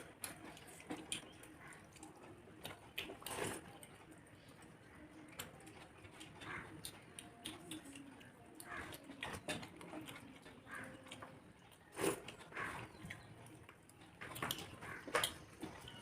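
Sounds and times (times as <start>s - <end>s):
chewing and mouth smacking: 0.0s - 16.0s.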